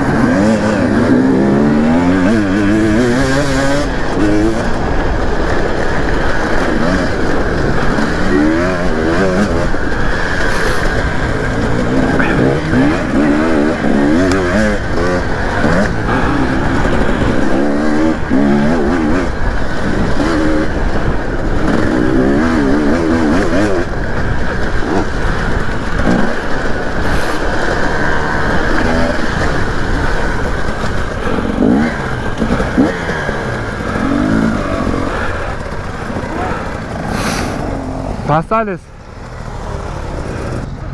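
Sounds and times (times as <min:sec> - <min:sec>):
wind noise: 0:00.0 - 0:38.3
dirt bike engine revving: 0:00.0 - 0:40.9.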